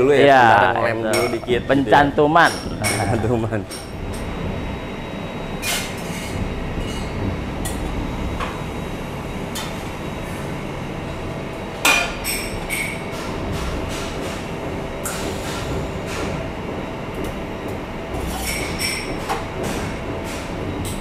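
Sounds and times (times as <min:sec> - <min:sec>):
low workshop hum: 0:00.0 - 0:21.0.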